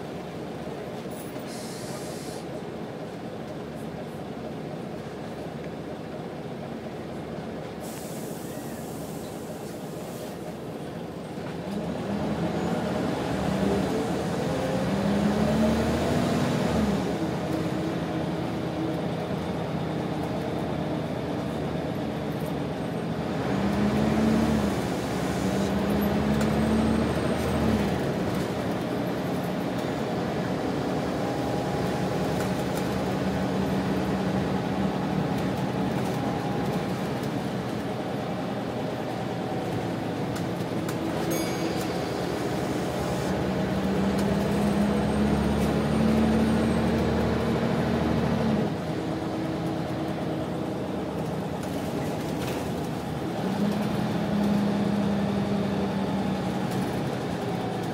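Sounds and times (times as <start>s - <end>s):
bus engine accelerating: 0.0s - 57.9s
road noise: 0.0s - 57.9s.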